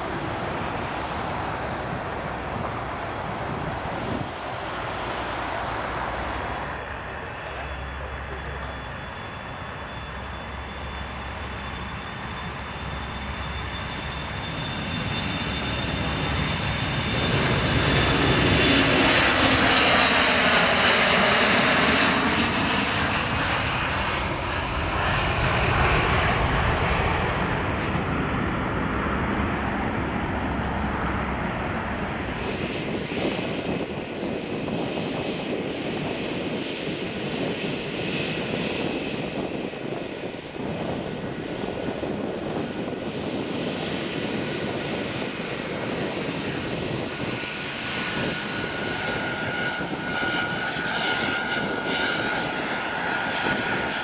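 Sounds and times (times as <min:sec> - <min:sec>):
jet engines roaring at takeoff: 0:00.0 - 0:54.0
jet taxiing at low thrust: 0:00.0 - 0:54.0.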